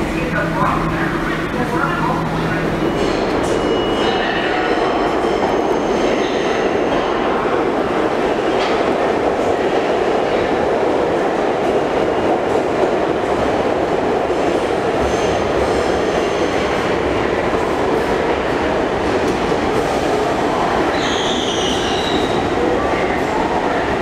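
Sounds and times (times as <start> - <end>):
subway train wheels rumbling on rail: 0.0 - 24.0.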